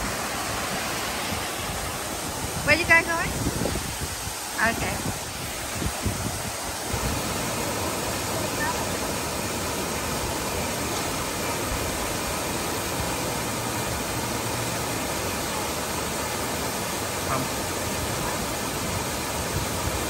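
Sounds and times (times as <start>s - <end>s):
waterfall pouring into pool: 0.0s - 20.0s.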